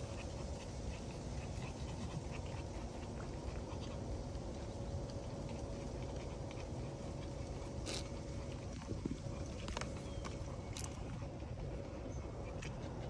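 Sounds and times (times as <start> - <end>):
low steady rumble: 0.0 - 13.0
small dogs panting: 0.0 - 13.0.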